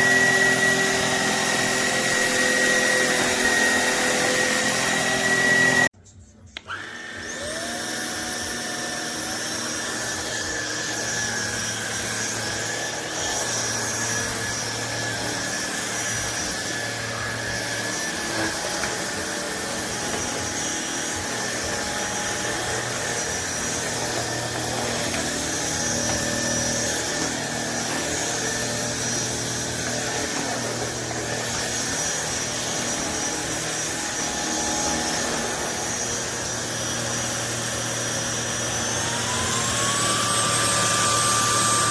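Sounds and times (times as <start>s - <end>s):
stick vacuum running: 0.0s - 5.9s, 6.6s - 41.9s.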